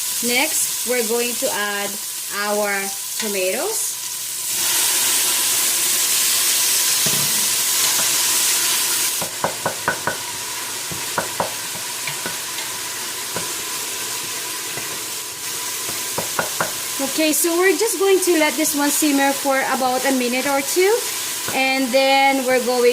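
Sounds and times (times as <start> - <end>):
vegetables sizzling in oil: 0.0 - 22.9.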